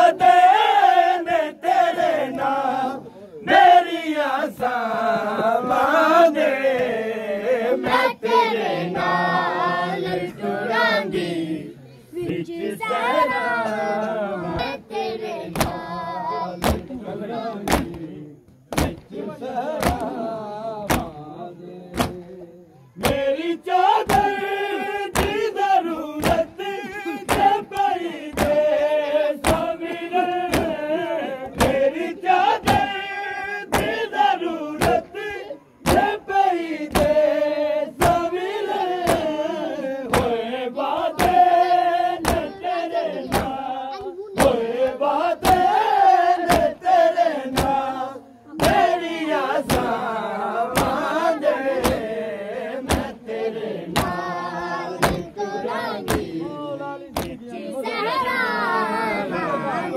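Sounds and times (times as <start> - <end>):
men chanting a lament: 0.0 - 59.9.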